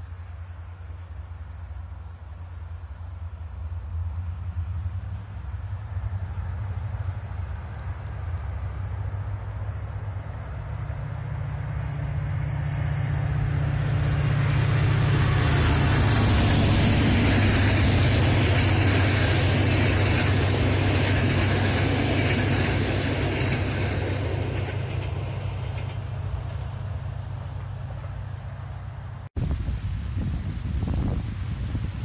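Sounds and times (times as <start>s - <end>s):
train wheels rolling on rail: 0.0s - 29.1s
locomotive engine drone: 0.0s - 32.0s.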